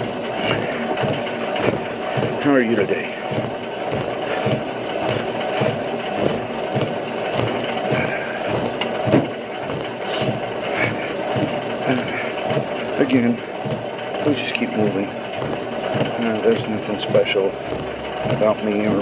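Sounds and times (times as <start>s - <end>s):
footfalls on treadmill belt: 0.0s - 19.0s
treadmill running: 0.0s - 19.0s.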